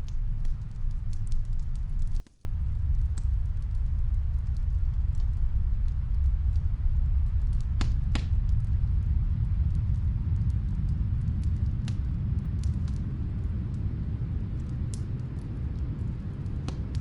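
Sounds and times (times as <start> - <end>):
fireplace crackling pops: 0.0 - 17.0
snowstorm wind rumble: 0.0 - 17.0.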